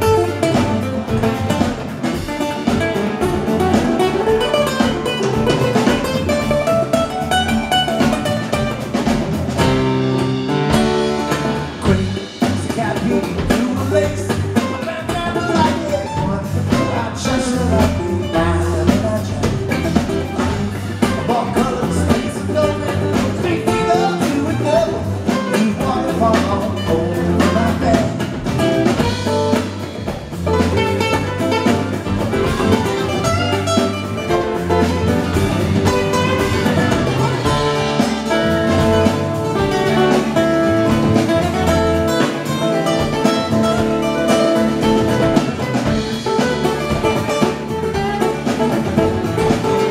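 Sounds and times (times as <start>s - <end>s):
acoustic guitars: 0.0s - 49.9s
electric bass: 0.0s - 49.9s
hand drum: 0.0s - 49.9s.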